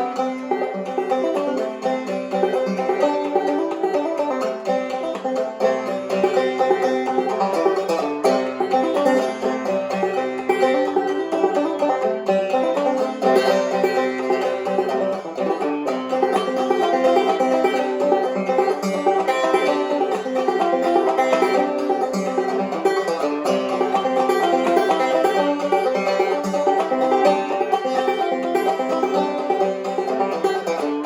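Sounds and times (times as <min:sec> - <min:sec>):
banjo picking: 0:00.0 - 0:31.0.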